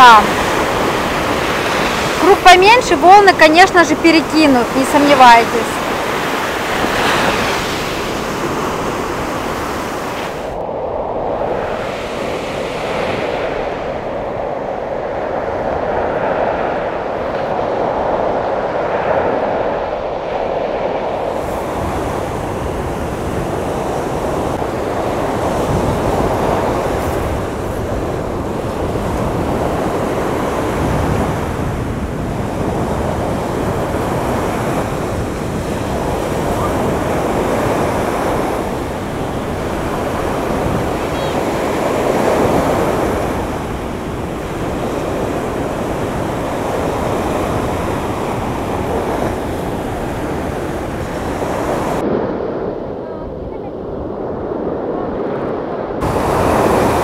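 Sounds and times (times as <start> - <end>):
surf breaking on sandy shore: 0.0 - 57.0
wind buffeting microphone: 0.0 - 57.0.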